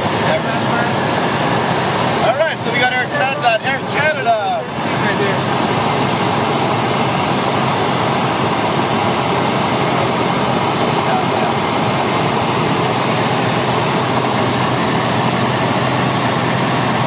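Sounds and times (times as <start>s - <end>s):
cabin airflow noise: 0.0s - 17.0s
small plane engine and propeller: 0.0s - 17.0s.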